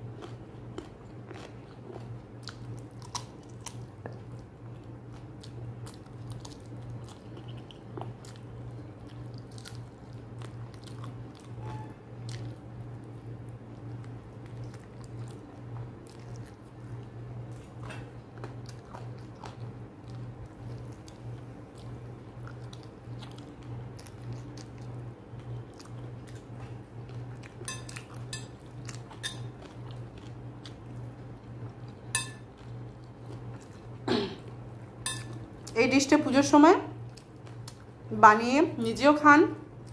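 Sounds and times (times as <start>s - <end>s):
chewing food: 0.0s - 35.8s, 37.0s - 38.1s.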